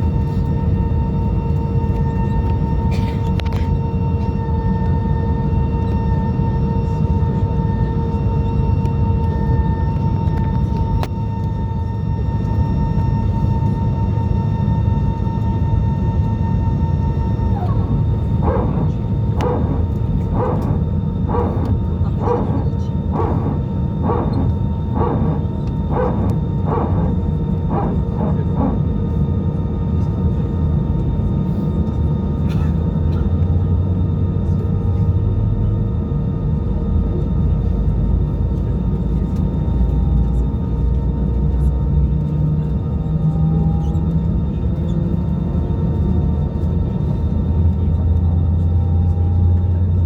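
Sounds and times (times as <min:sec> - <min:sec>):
airliner engines rumbling: 0:00.0 - 0:50.0.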